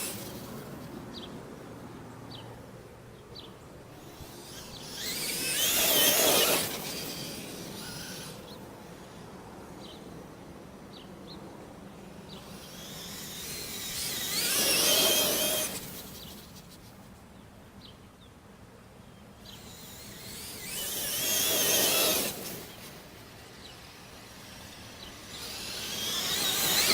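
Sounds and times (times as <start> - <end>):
rc truck motor whine passing: 0.0 - 1.8, 3.9 - 10.6, 11.6 - 17.2, 19.3 - 26.9.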